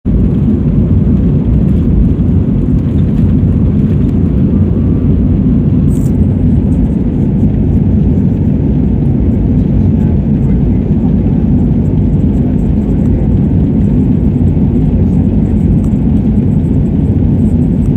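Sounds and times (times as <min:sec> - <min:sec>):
jet engines rumbling in cabin: 0:00.1 - 0:17.9.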